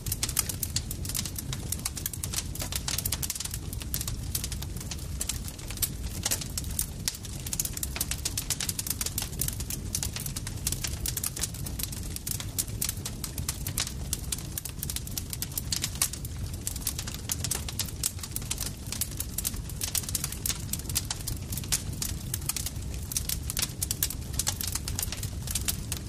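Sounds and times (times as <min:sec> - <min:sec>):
campfire pops and snaps: 0:00.0 - 0:26.0
low rumble of burning wood: 0:00.0 - 0:26.0.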